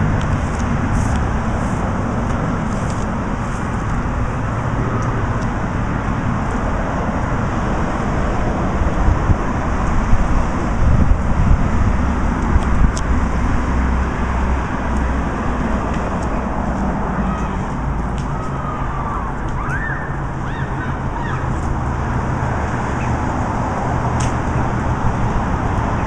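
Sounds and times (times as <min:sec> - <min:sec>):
road traffic hum: 0:00.0 - 0:26.0.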